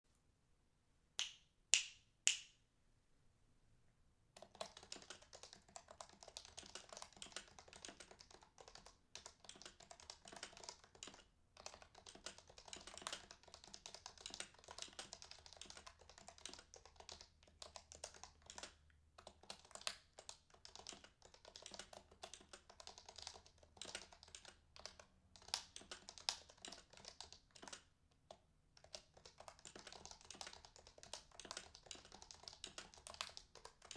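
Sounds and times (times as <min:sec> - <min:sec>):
keyboard typing: 0:04.4 - 0:33.9.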